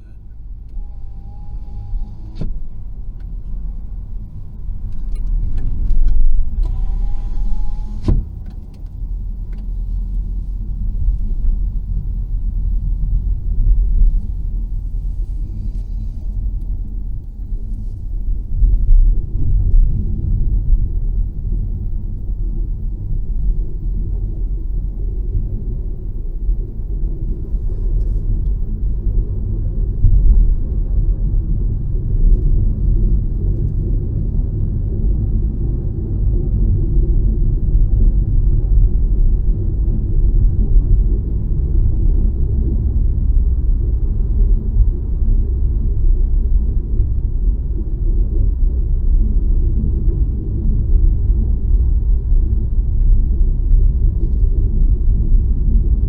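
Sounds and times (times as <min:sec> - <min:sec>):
road and engine noise in car: 0:00.0 - 0:56.0.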